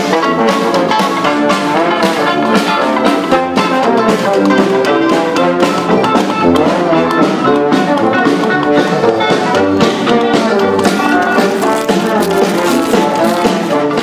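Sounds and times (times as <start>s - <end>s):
live jazz band playing: 0.0s - 14.0s.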